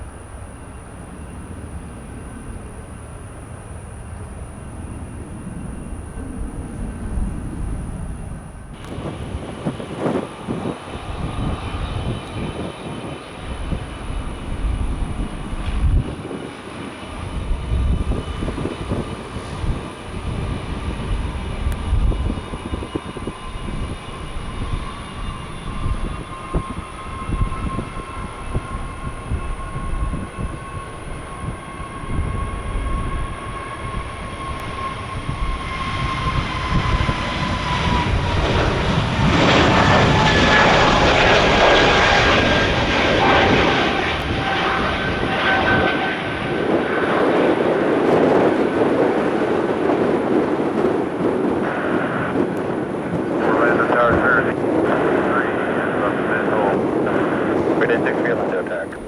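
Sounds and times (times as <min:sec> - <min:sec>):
jet airliner passing: 0:00.0 - 0:59.0
wind buffeting microphone: 0:00.0 - 0:59.0.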